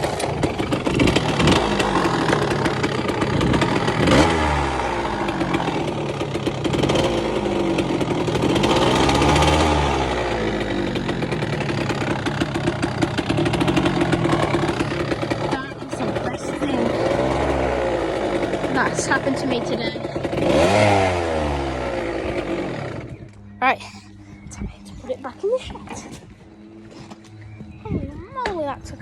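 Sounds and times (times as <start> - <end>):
motorcycle engine revving: 0.0 - 23.8
motorcycle engine idling unevenly: 0.0 - 29.0.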